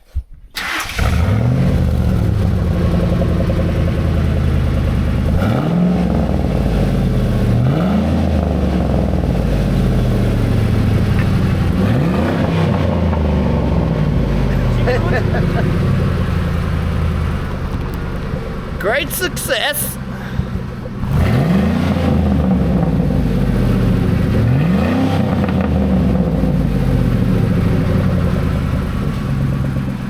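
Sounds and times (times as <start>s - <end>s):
truck engine starting and idling: 0.5s - 30.0s.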